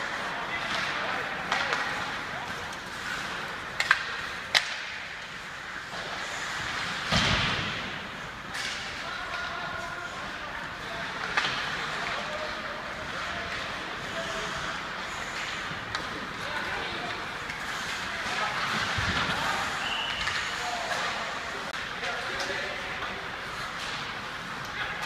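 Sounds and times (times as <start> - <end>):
skates scraping on ice: 0.0 - 9.0, 9.7 - 25.0
ice rink din: 0.0 - 25.0.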